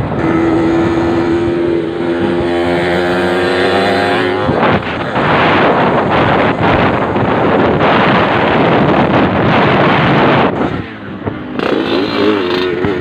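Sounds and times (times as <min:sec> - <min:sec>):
motorcycle engine running: 0:00.0 - 0:13.0
rough rushing noise: 0:00.0 - 0:13.0.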